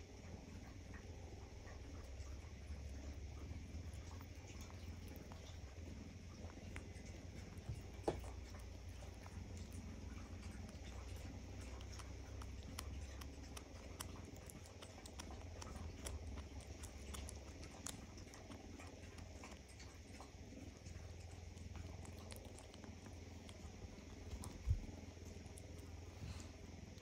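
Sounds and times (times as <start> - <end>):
kitten chewing meat off bone: 0.0 - 27.0
steady low hum: 0.0 - 27.0.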